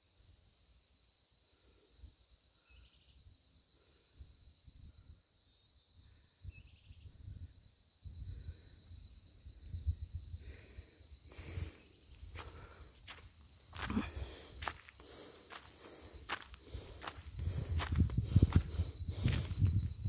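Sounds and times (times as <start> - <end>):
faint chirps: 0.0 - 17.8
insect trill: 0.0 - 20.0.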